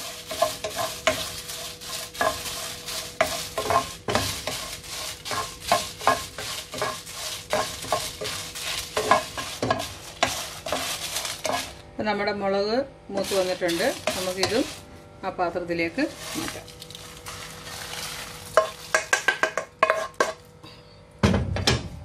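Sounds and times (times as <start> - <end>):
spatula scraping chillies in pan: 0.0 - 11.8, 13.1 - 14.9, 16.0 - 20.4.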